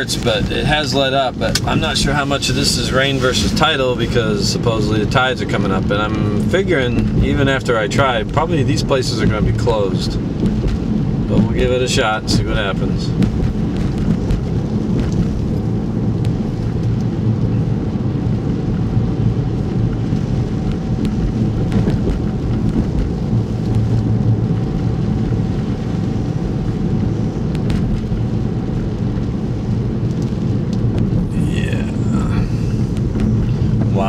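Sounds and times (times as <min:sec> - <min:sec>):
car engine: 0:00.0 - 0:34.0
road noise: 0:00.0 - 0:34.0
wind noise: 0:00.0 - 0:34.0.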